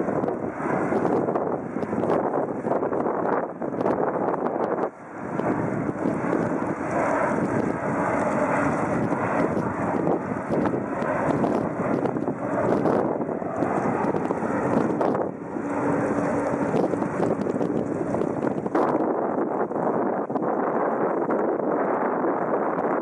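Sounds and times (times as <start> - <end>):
jet engines running: 0.0 - 23.0
wind buffeting microphone: 0.0 - 23.0.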